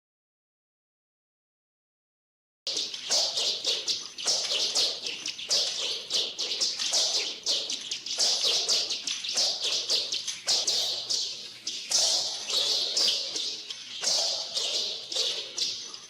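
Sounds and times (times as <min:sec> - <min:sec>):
whistling whooshes: 0:02.7 - 0:16.0.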